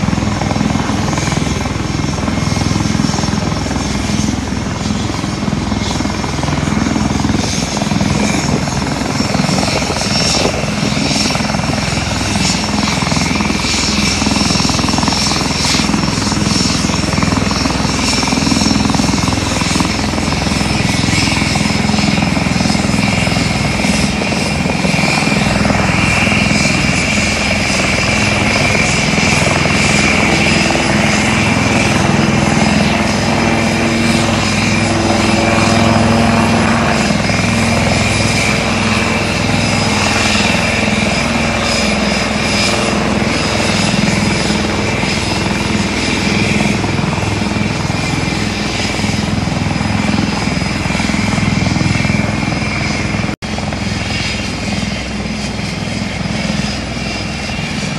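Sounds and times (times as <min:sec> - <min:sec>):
helicopter rotor throb: 0:00.0 - 0:57.9
turbine engine whine: 0:00.0 - 0:57.9.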